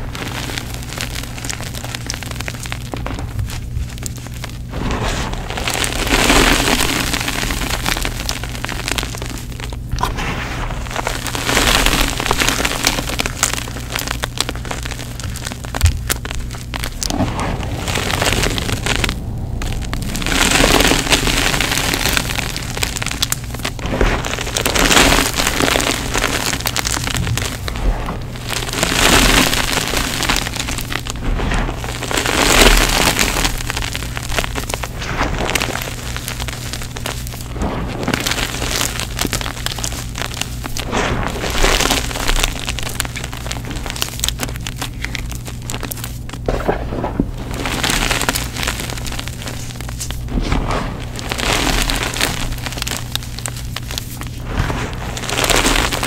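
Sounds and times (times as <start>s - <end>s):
chalk crackling and crunching: 0.0s - 56.0s.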